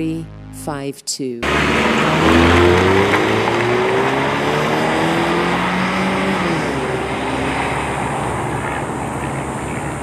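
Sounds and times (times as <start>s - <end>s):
truck engine accelerating: 1.4s - 10.0s.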